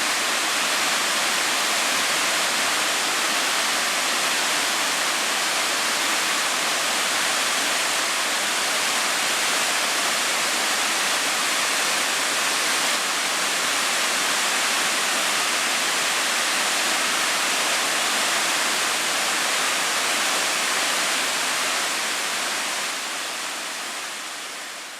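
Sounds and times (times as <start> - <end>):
water rushing: 0.0 - 24.9.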